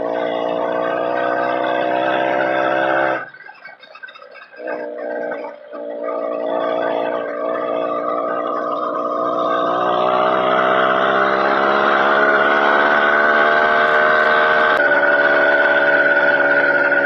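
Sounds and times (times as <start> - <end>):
small engine running: 0.0 - 3.4, 4.6 - 17.0.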